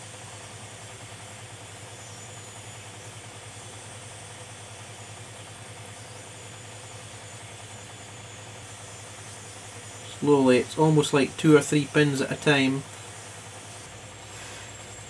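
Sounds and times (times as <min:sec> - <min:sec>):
hot air blower hissing: 0:00.0 - 0:15.0.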